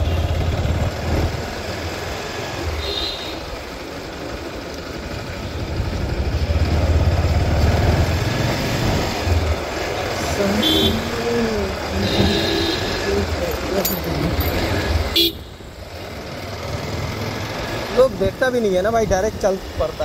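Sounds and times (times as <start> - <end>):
motorcycle engine running: 0.0 - 18.3.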